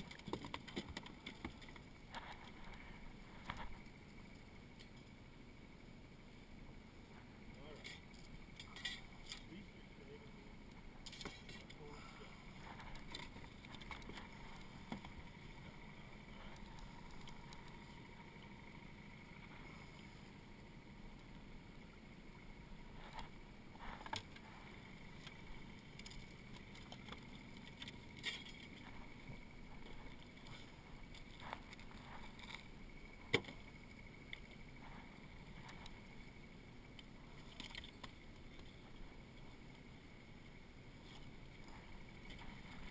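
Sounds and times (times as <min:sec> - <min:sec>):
boat engine low rumble: 0:00.0 - 0:42.9.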